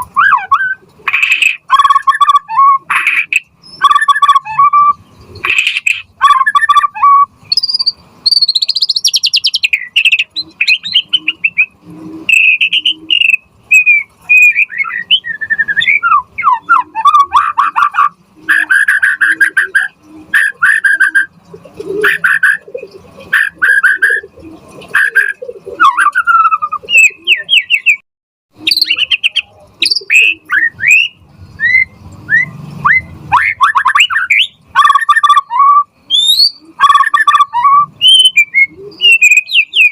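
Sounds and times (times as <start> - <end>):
songbird whistling and trilling: 0.0 - 28.0, 28.6 - 39.9.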